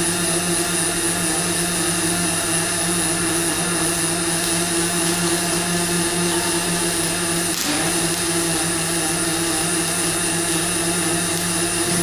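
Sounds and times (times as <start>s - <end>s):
welding arc hissing: 0.0s - 12.0s.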